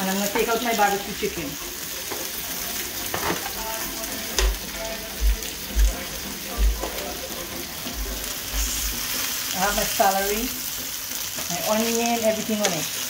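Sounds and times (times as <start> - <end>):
chicken sizzling on grill: 0.0 - 13.0.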